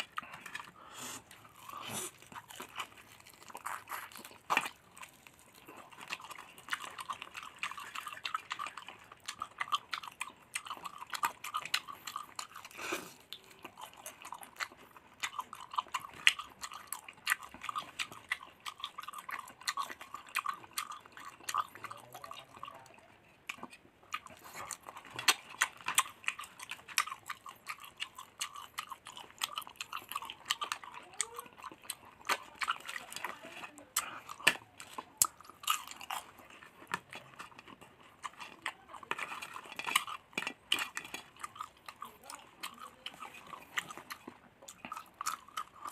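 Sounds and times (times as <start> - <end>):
crisp chewing crunches: 0.0 - 45.9.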